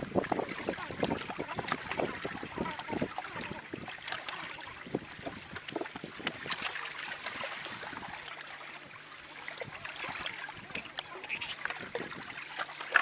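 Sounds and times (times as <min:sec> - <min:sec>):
small waves lapping: 0:00.0 - 0:13.0.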